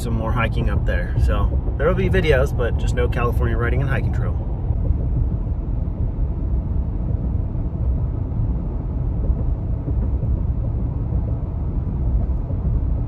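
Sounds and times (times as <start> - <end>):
truck road and engine rumble: 0.0 - 13.0.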